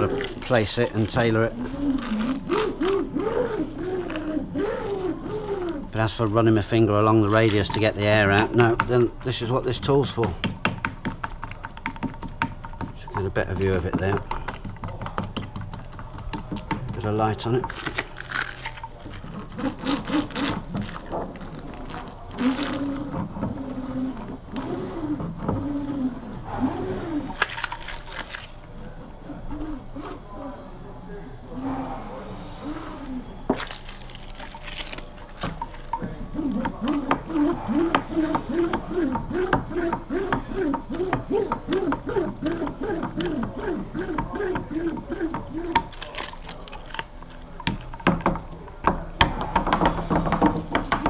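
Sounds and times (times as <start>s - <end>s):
hand roller clicking and scraping: 0.0s - 28.6s, 33.9s - 51.0s.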